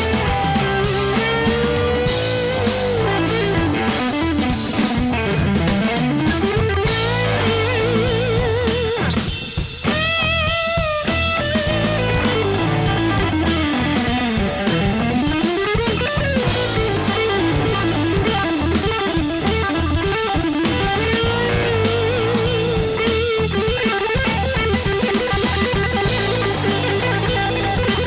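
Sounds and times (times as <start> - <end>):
drum kit: 0.0 - 28.0
rock instrumental music: 0.0 - 28.0
sliding electric lead guitar: 0.0 - 28.0.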